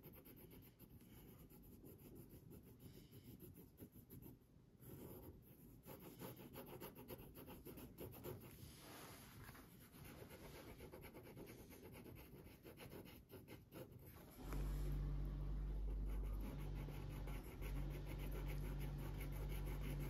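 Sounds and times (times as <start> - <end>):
felt-tip pen scratching on paper: 0.0 - 8.6, 9.5 - 14.6, 15.8 - 20.0.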